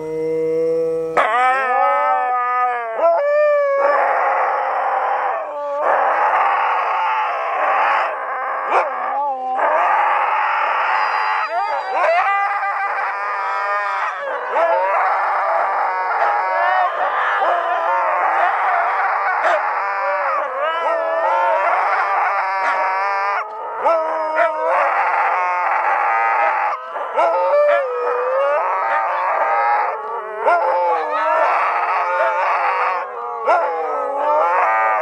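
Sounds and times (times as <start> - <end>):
dogs howling in chorus: 1.1 - 35.0.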